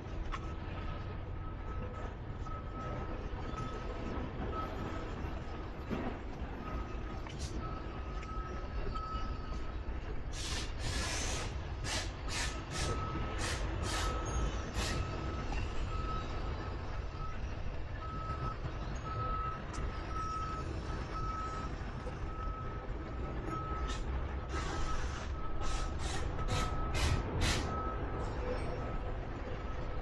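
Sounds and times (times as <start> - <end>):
reversing alarm beeping: 1.4 - 5.6, 6.6 - 30.0.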